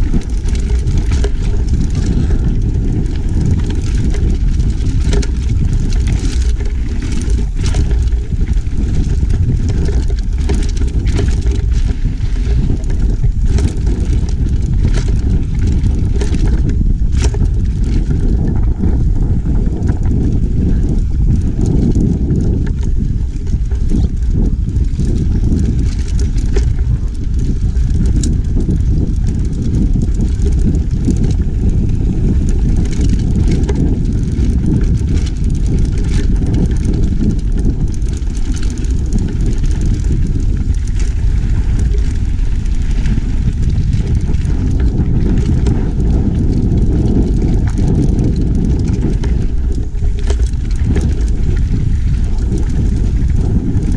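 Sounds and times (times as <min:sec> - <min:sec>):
bike clicks and rattles: 0:00.0 - 0:53.9
wind and tyre noise: 0:00.0 - 0:53.9.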